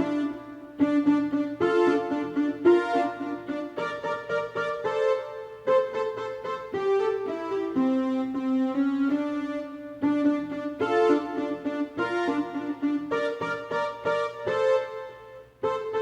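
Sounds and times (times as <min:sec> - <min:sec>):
electronic keyboard melody: 0:00.0 - 0:16.0.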